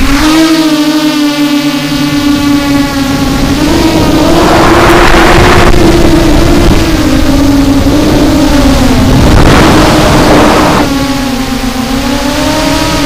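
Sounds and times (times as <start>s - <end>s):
drone motors whining: 0.0s - 13.0s
rushing throttle surge: 0.0s - 13.0s.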